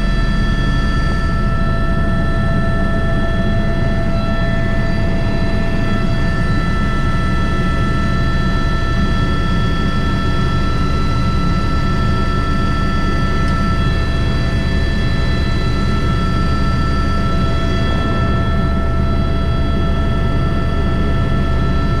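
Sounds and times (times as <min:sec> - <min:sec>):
helicopter rotor drone: 0:00.0 - 0:22.0
helicopter turbine whine: 0:00.0 - 0:22.0.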